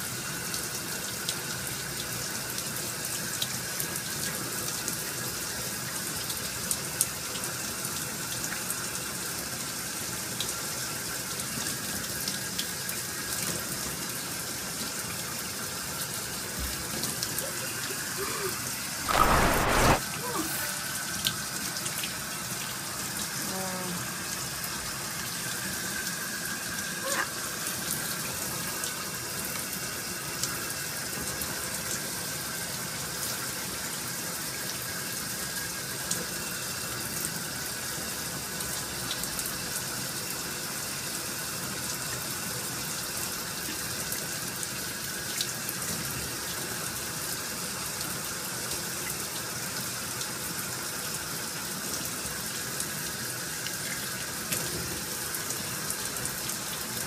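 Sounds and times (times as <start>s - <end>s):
water running from a tap: 0.0s - 57.0s.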